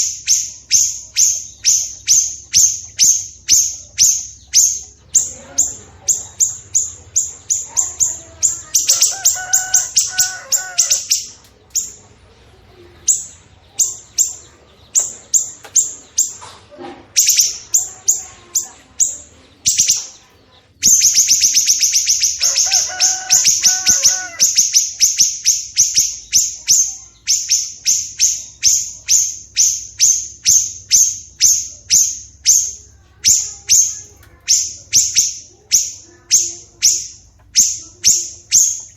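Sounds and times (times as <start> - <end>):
low bird warbling phrases: 0.0 - 38.9.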